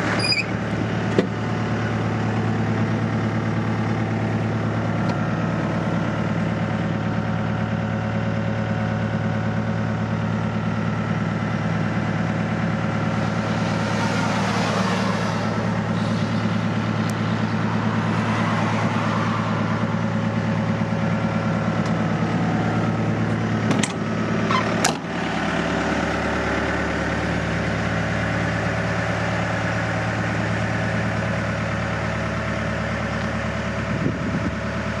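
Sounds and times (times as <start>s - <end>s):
excavator diesel engine idling: 0.0s - 35.0s.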